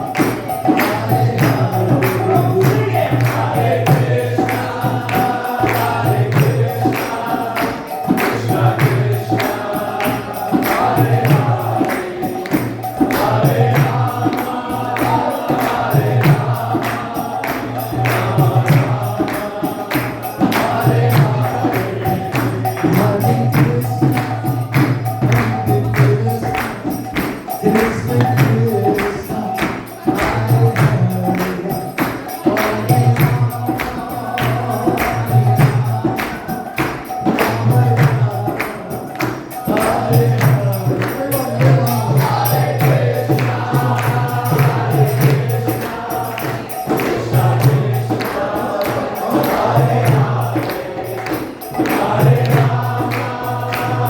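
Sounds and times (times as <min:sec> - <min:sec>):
group singing a devotional chant: 0:00.0 - 0:54.0
hand cymbals striking a beat: 0:00.0 - 0:54.0.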